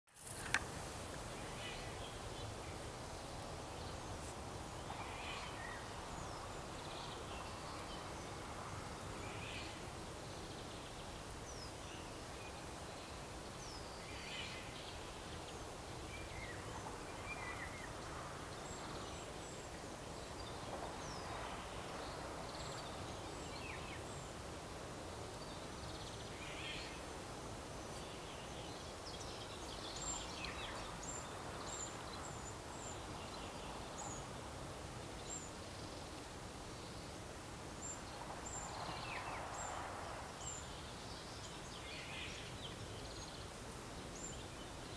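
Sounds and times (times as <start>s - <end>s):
outdoor background noise: 0.1s - 44.9s
small birds chirping: 0.1s - 44.9s.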